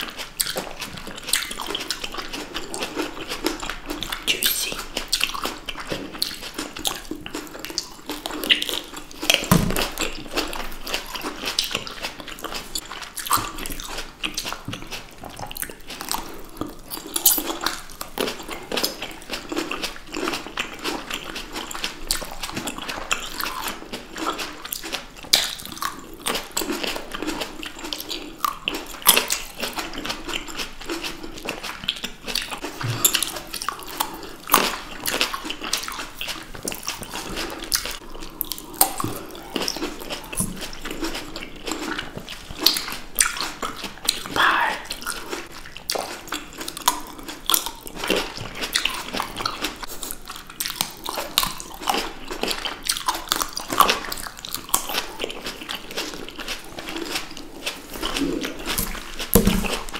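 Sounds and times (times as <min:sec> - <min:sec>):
people chewing grapes: 0:00.0 - 0:59.9.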